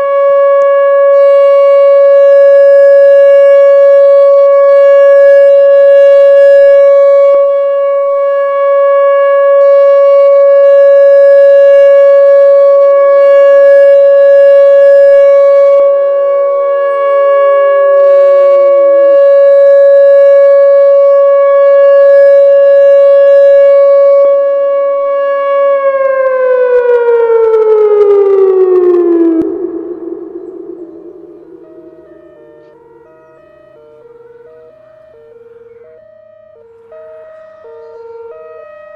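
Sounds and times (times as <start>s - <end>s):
warning siren winding down: 0.0s - 38.9s.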